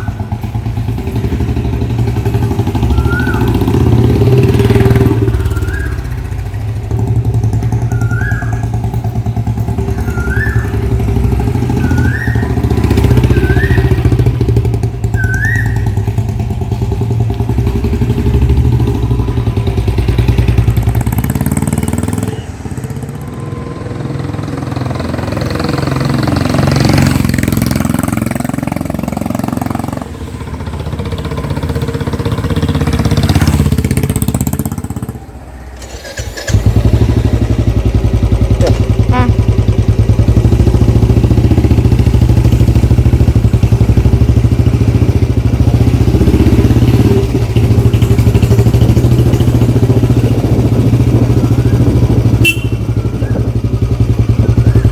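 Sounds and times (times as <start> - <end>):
motorcycle engine passing: 0.0 - 54.9.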